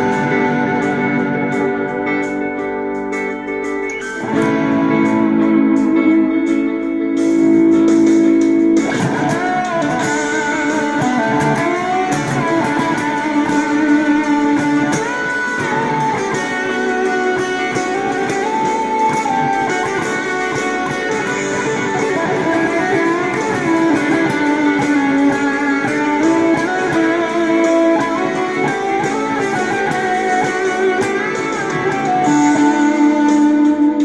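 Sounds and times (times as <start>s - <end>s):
overdriven electric guitar: 0.0s - 34.0s.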